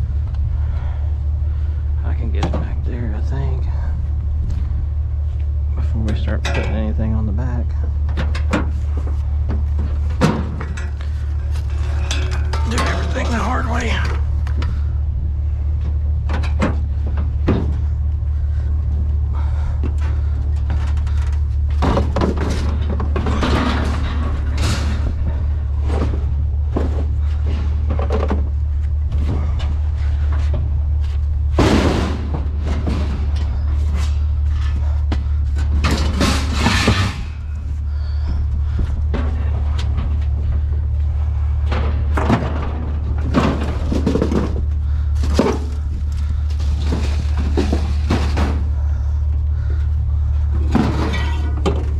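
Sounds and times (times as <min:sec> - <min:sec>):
steady low rumble: 0:00.0 - 0:51.9
scrap metal clanking and scraping: 0:05.8 - 0:51.9.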